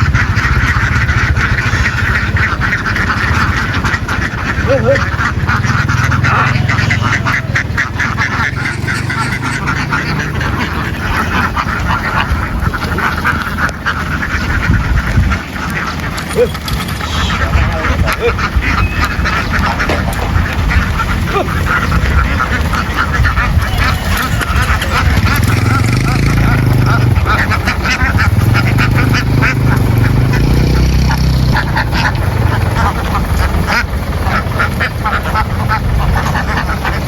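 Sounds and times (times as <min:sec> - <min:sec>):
ducks quacking: 0:00.0 - 0:37.0
low rumble: 0:00.0 - 0:37.0.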